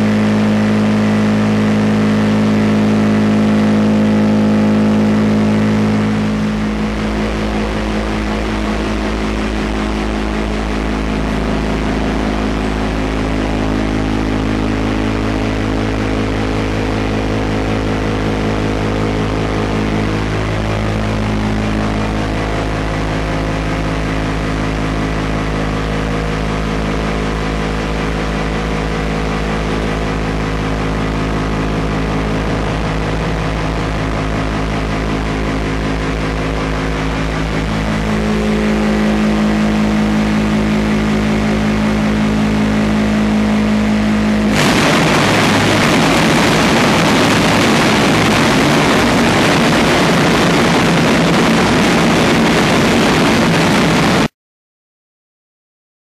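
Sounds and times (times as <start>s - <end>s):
harsh even machine noise: 0.0s - 54.3s
machinery hum with steady tones: 0.0s - 54.3s.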